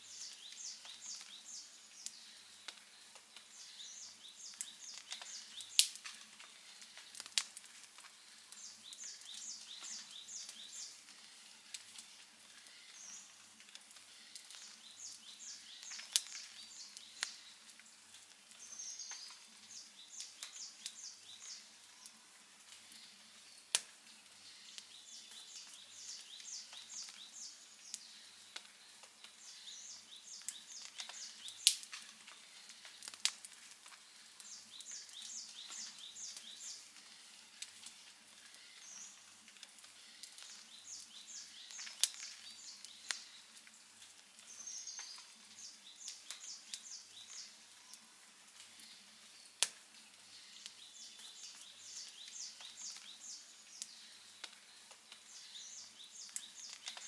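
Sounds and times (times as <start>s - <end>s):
fire soft hiss: 0.0s - 57.0s
wood fire crackling: 0.0s - 57.0s.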